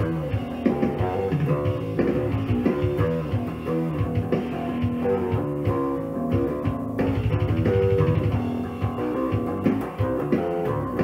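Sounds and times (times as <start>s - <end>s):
electric bass plucked notes: 0.0s - 11.0s.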